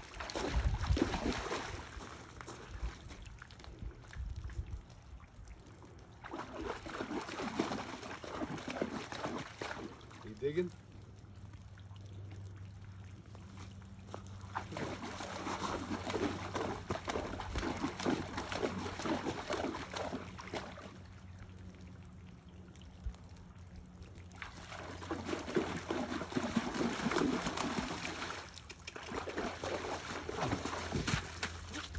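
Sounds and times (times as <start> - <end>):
hoof splashing in water: 0.0 - 31.9.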